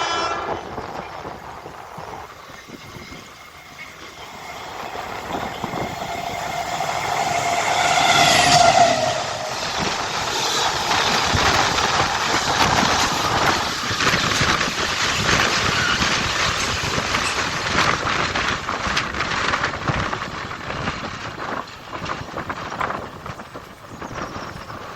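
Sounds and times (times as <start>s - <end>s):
train passing on rails: 0.0s - 24.9s
wind on microphone: 0.0s - 24.9s.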